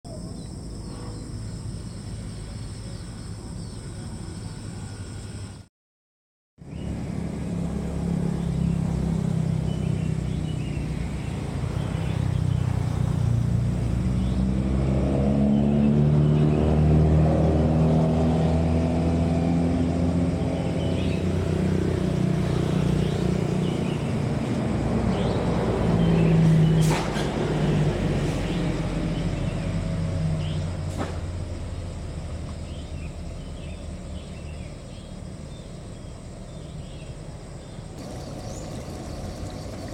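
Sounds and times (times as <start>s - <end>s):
low engine drone: 6.6s - 39.9s.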